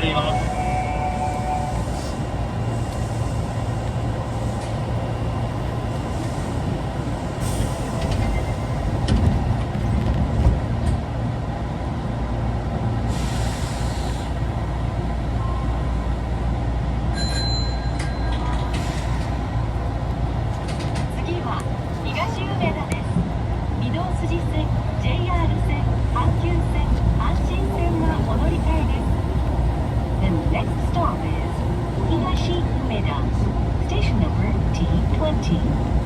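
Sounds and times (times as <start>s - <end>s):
subway car low rumble: 0.0s - 36.0s.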